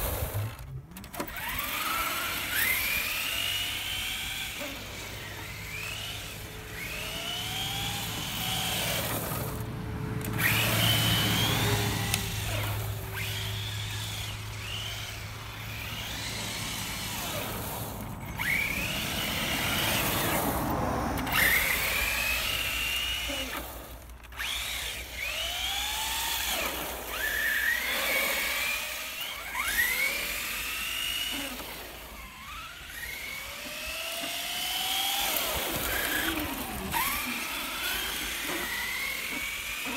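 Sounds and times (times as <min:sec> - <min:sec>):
rc car electric motor whining: 0:00.0 - 0:39.9.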